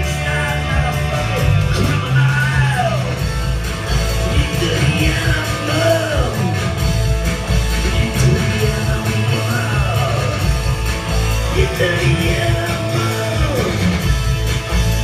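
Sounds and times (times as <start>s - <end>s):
person singing: 0.0s - 3.3s, 4.0s - 7.0s, 7.7s - 14.1s
bass guitar: 0.0s - 15.0s
electric guitar: 0.0s - 15.0s.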